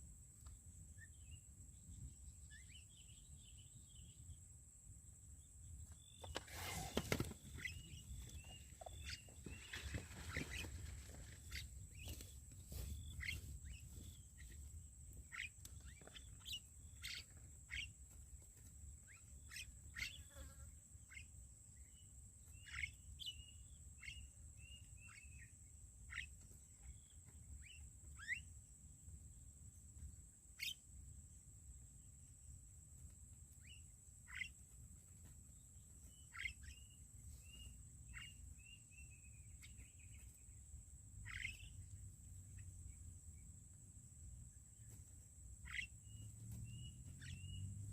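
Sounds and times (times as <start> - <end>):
birds chirping: 1.0 - 4.4, 5.8 - 20.5, 21.1 - 28.5, 33.6 - 40.6, 41.2 - 43.5, 44.4 - 47.9.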